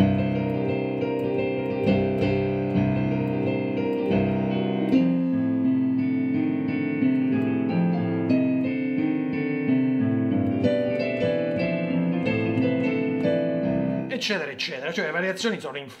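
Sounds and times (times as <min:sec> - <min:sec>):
boogie-woogie piano: 0:00.0 - 0:15.4.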